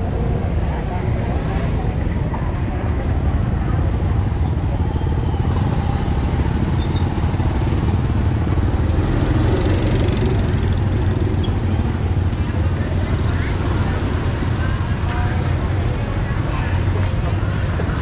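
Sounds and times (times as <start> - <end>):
passing traffic: 0.0 - 18.0
people's voices: 0.0 - 18.0.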